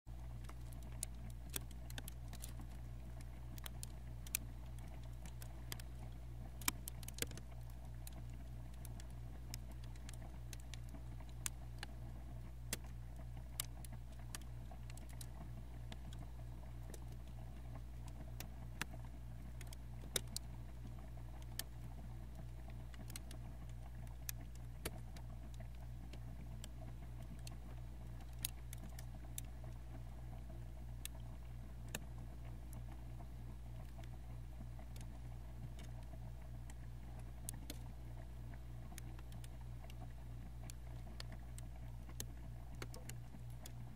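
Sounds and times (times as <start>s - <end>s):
freezer humming: 0.1s - 43.9s.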